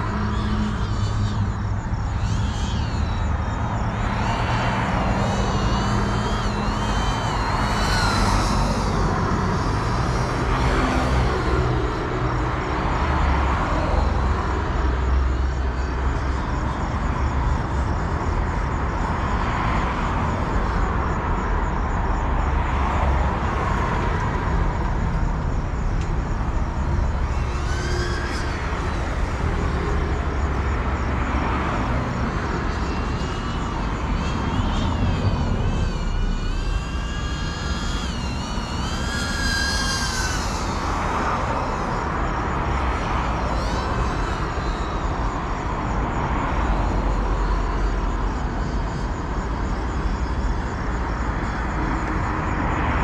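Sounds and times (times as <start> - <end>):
outdoor rumble like traffic: 0.0 - 53.0
quadcopter motors whining: 0.0 - 53.0.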